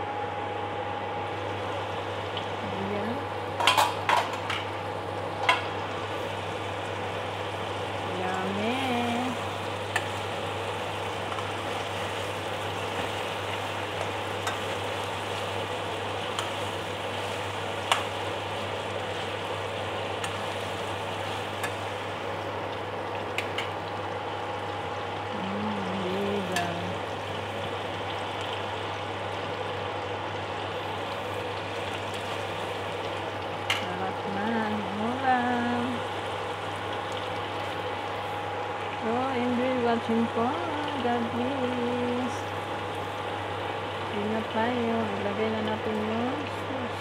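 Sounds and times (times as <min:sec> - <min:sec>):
steady low hum: 0:00.0 - 0:47.0
chicken sizzling in a pan: 0:01.2 - 0:47.0.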